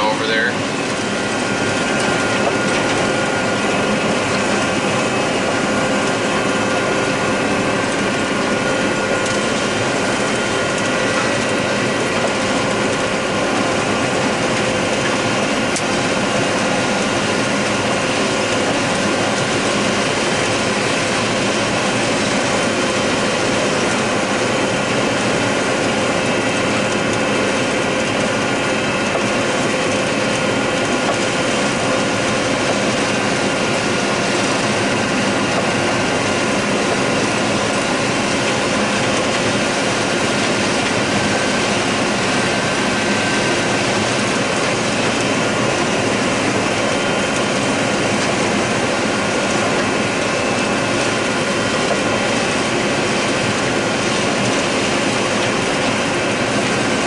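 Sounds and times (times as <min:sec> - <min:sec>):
steady whining tones: 0:00.0 - 0:56.9
combine harvester running: 0:00.0 - 0:57.0.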